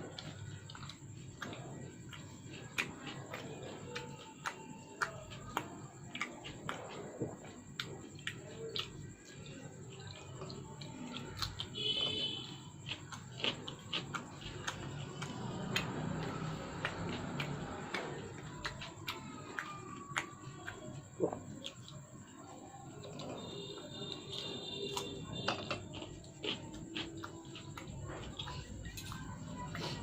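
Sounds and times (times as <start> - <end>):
wet chewing: 0.0 - 30.0.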